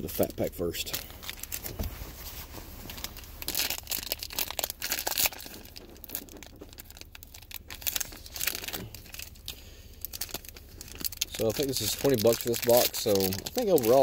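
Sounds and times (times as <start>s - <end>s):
wrapper tearing and crinkling: 0.2s - 14.0s.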